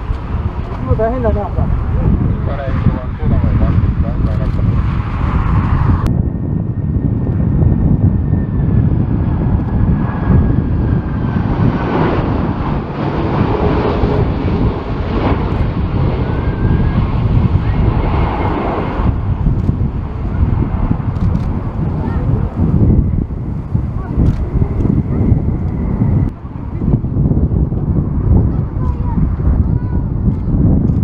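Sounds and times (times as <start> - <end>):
jet engines whining: 0.0 - 30.1
wind rumble on microphone: 0.0 - 31.0.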